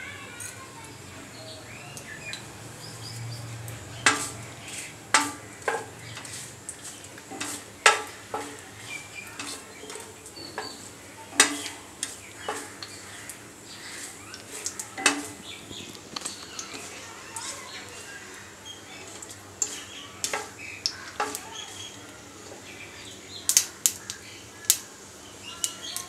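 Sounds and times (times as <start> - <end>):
spatula stirring seeds in hot oil: 0.1 - 24.8.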